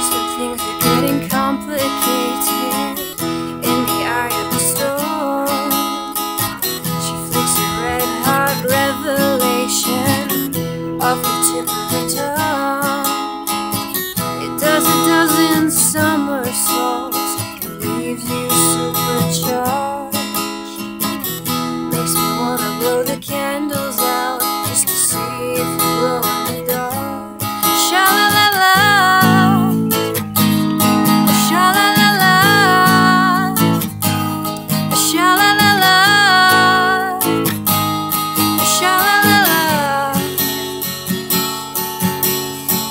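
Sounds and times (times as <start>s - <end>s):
woman singing: 0.0s - 41.0s
acoustic guitar strumming: 0.0s - 42.9s.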